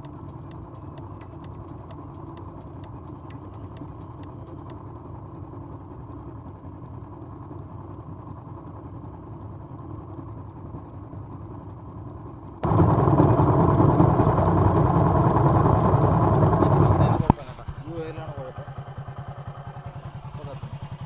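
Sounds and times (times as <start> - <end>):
rapid ticking clicks: 0.0 - 10.9, 11.6 - 21.0
motorcycle engine idling: 0.0 - 21.0.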